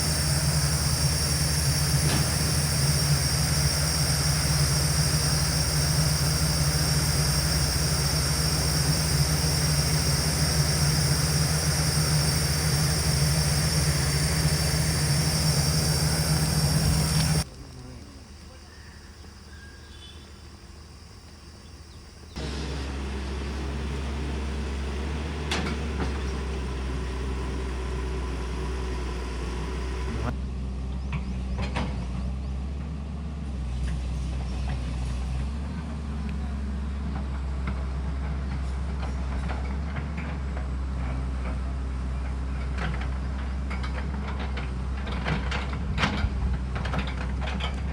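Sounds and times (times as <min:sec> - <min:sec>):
heavy engine drone: 0:00.0 - 0:47.9.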